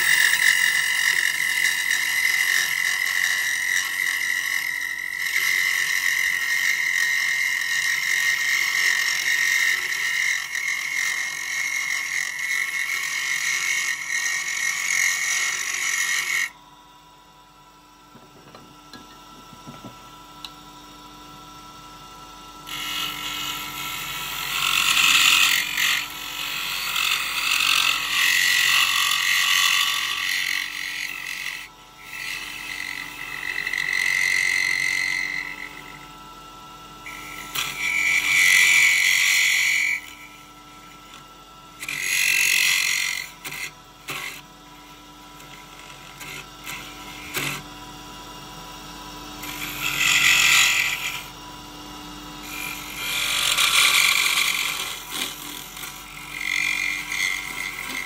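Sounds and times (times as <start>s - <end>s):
chisel scraping wood on lathe: 0.0s - 16.6s, 22.6s - 36.1s, 37.0s - 41.2s, 41.8s - 47.6s, 49.4s - 51.3s, 52.4s - 58.0s
wood lathe running: 0.0s - 16.6s, 21.4s - 58.0s.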